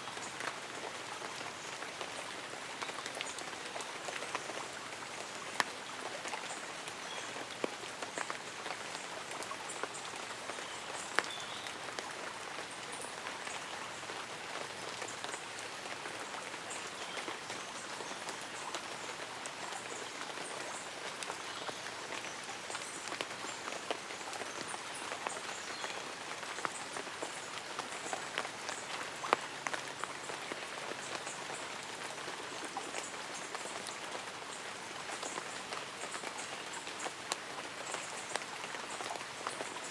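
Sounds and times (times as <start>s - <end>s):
light rain pattering on leaves: 0.0s - 39.9s
water drips: 0.1s - 39.9s.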